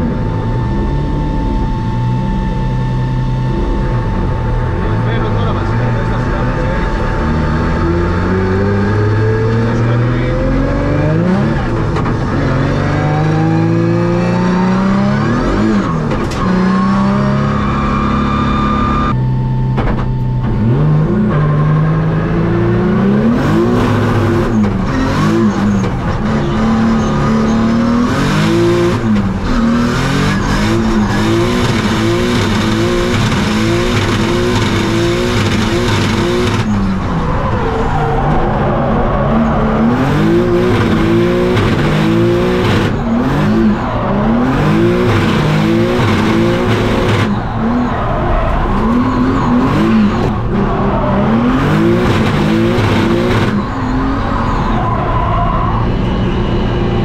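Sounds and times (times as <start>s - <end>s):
race car engine revving: 0.0s - 19.3s, 20.1s - 57.0s.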